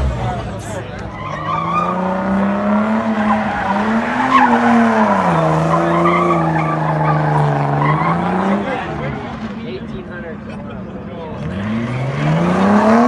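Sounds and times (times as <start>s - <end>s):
car engine at high revs: 0.0s - 9.6s, 11.3s - 13.0s.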